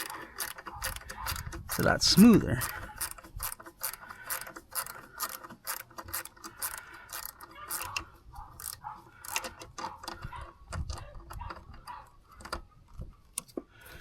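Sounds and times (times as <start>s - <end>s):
ratcheting wrench clicking: 0.0s - 11.5s.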